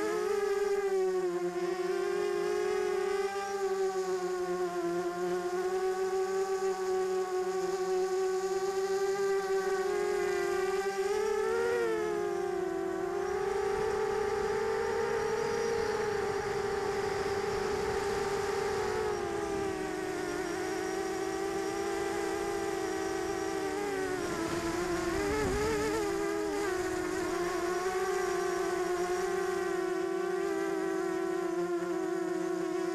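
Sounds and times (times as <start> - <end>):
drone motors buzzing whine: 0.0 - 32.9.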